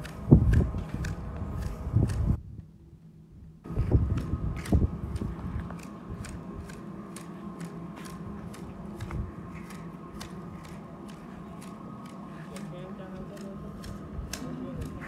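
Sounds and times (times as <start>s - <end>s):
hedge shears snipping: 0.0s - 2.4s, 3.7s - 15.0s.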